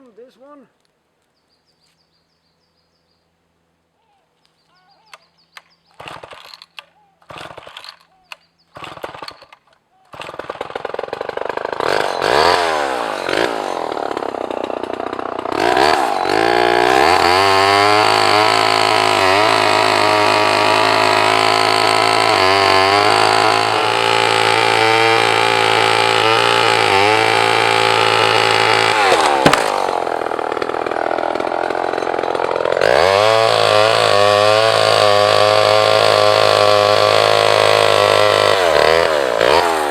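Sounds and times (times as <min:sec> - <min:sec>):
two-stroke chainsaw revving: 0:06.0 - 0:08.0, 0:08.8 - 0:39.9.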